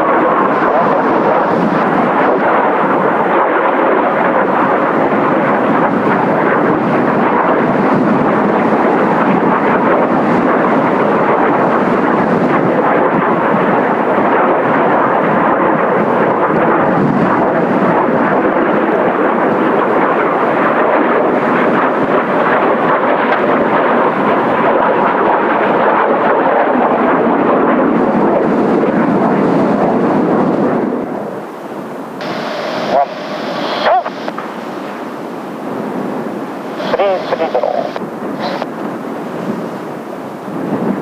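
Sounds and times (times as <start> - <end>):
jets roaring overhead: 0.0 - 41.0.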